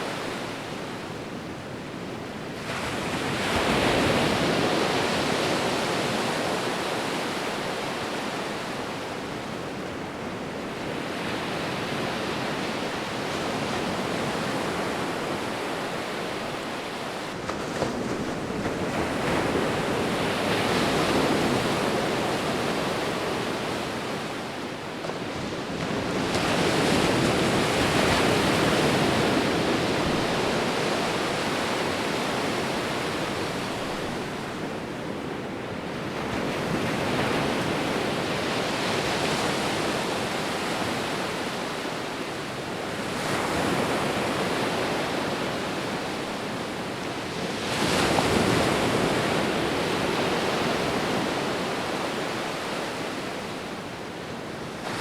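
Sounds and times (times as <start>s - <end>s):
sea waves rolling onto shore: 0.0s - 55.0s.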